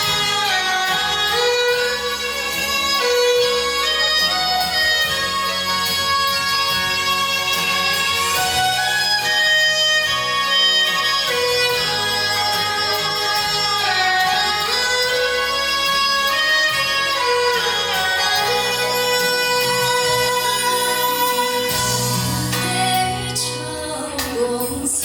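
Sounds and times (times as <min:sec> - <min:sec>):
instrumental music: 0:00.0 - 0:25.0.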